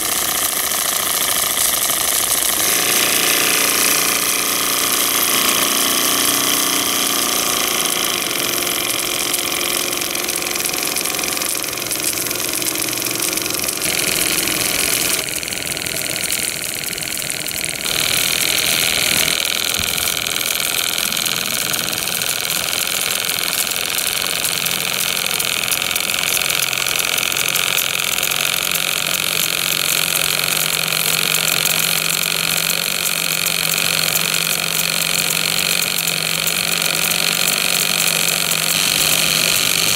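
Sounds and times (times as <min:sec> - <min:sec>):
model steam engine running: 0:00.0 - 0:39.9.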